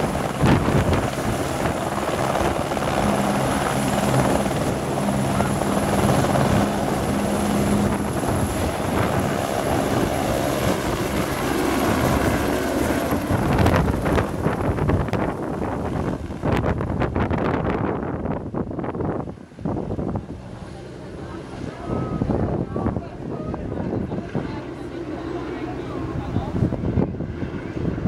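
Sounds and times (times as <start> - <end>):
helicopter rotor beat: 0.0 - 28.0
helicopter turbine whine: 0.0 - 28.0.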